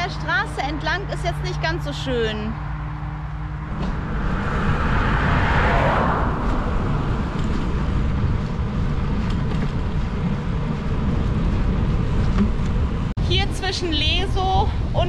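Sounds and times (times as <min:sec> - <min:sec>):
car passing: 0:00.0 - 0:13.1
wind rumble on microphone: 0:00.0 - 0:15.0.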